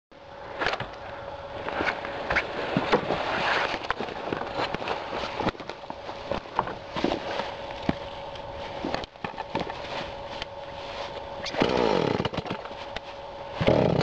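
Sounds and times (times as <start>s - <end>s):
faint steady hum: 0.1s - 14.0s
footsteps crunching on brushwood: 1.6s - 13.2s.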